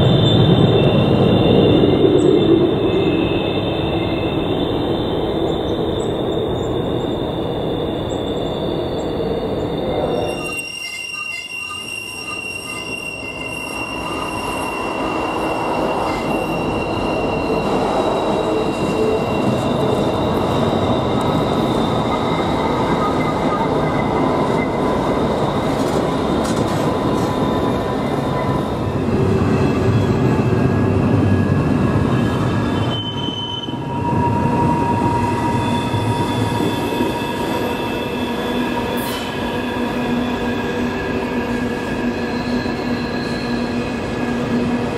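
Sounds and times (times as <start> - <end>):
rumble of wheels on rail: 0.0 - 44.9
train wheel flange squeal: 0.0 - 44.9.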